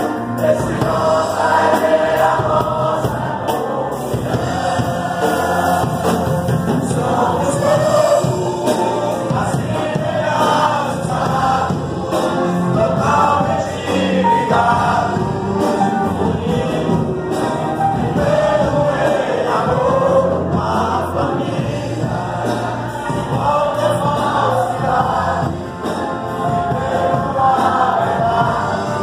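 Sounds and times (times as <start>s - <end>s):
congregation singing a hymn: 0.0s - 29.0s.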